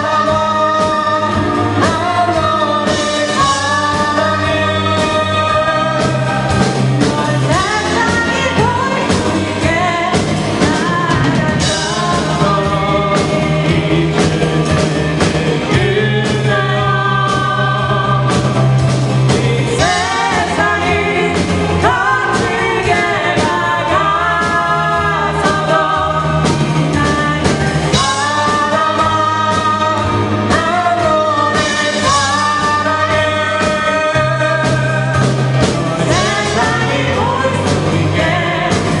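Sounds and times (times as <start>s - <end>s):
bass notes: 0.0s - 39.0s
drum kit beat: 0.0s - 39.0s
person singing: 0.0s - 39.0s.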